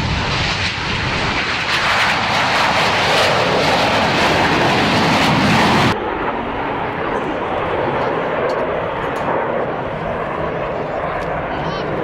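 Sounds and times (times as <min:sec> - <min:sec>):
aircraft engine roar: 0:00.0 - 0:12.0.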